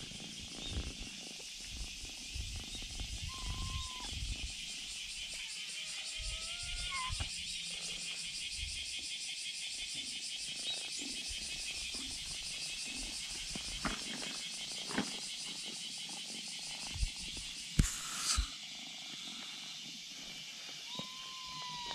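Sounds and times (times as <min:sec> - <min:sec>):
insects chorus pulsing: 0:00.0 - 0:21.9.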